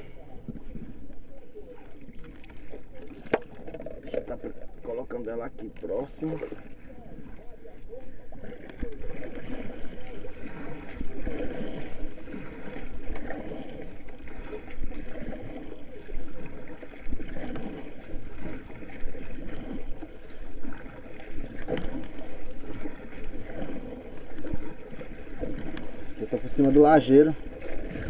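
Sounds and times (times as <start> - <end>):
sea water sloshing against board: 0.0 - 28.0.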